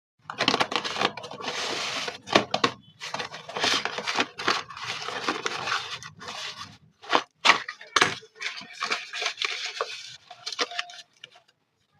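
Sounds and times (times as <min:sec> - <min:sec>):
slate pencils scraping: 0:00.4 - 0:11.4.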